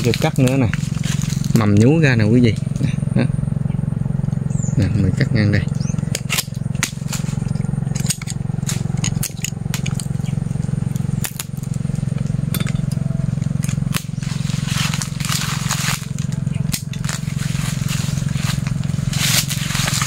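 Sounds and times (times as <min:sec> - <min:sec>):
pruning shears snipping twigs: 0:00.0 - 0:03.0, 0:05.7 - 0:20.0
steady low rumble: 0:00.0 - 0:20.0.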